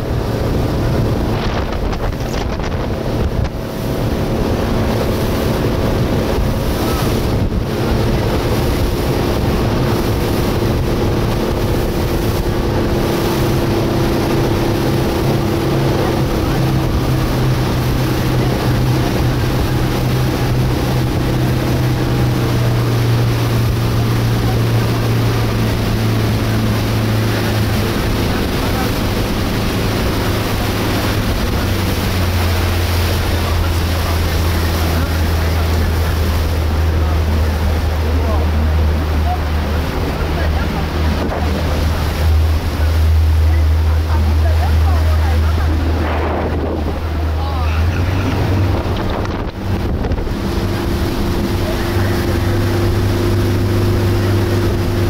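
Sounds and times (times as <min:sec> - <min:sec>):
wind on microphone: 0:00.0 - 0:39.0, 0:39.6 - 0:55.0
motorboat engine running: 0:00.0 - 0:55.0
water rushing along hull: 0:00.0 - 0:55.0.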